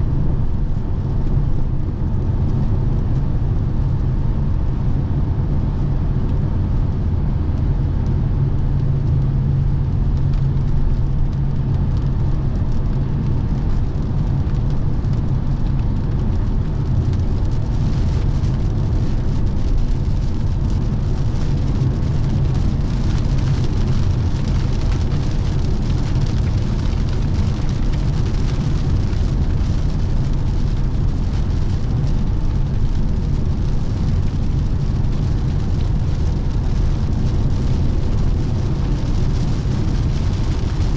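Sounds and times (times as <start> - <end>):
car road and wind noise: 0.0 - 40.9.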